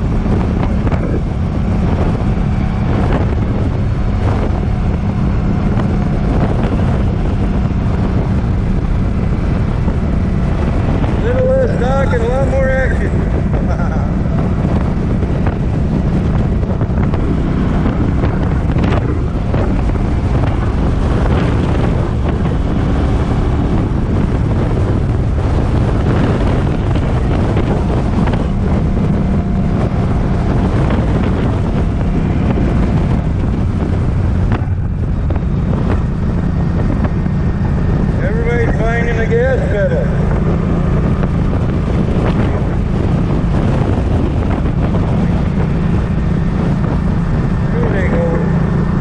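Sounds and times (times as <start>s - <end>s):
motorcycle engine running: 0.0s - 49.0s
wind buffeting microphone: 0.0s - 49.0s.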